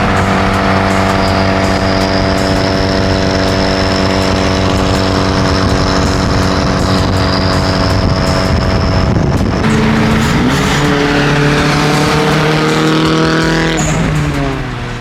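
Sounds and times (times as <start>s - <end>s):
car engine cruising at steady revs: 0.0s - 15.0s.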